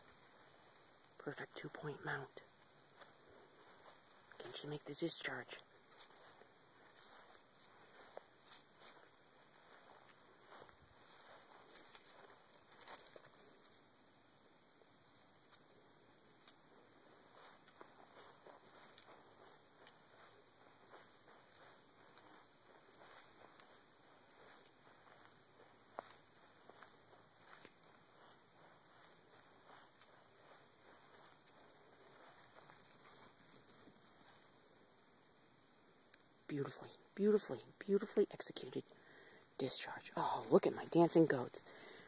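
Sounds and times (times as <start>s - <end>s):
crickets chirring: 0.0s - 42.0s.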